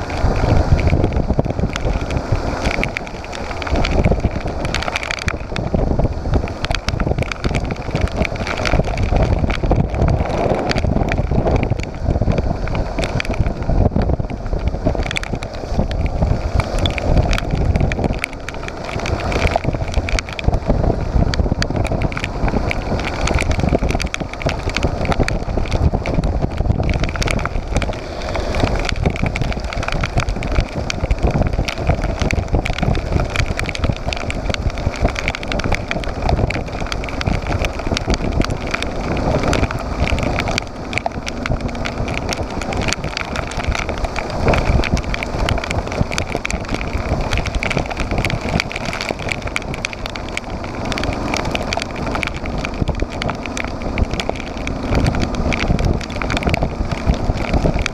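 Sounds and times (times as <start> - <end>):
sharp ticks: 0.0 - 57.9
wind buffeting microphone: 0.0 - 57.9.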